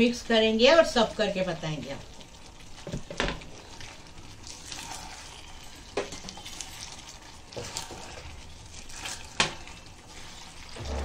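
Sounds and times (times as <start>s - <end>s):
chicken sizzling in gravy: 0.0s - 11.0s.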